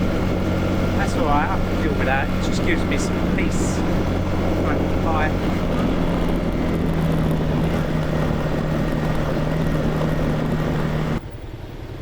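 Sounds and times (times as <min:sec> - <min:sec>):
constant rush of noise: 0:00.0 - 0:12.0
small motorcycle engine running: 0:00.0 - 0:12.0.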